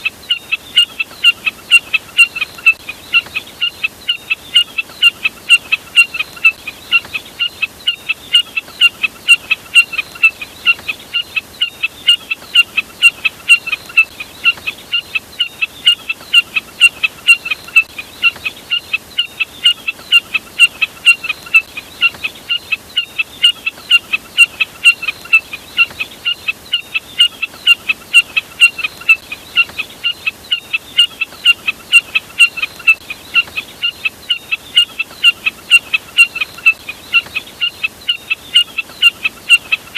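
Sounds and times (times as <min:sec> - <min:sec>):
jack snipe calls: 0:00.0 - 0:39.9.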